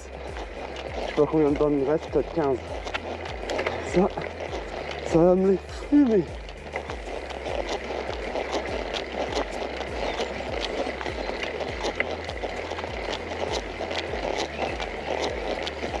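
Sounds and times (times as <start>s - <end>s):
bicycle ticking and thumping: 0.0s - 16.0s
road and wind noise: 0.0s - 16.0s.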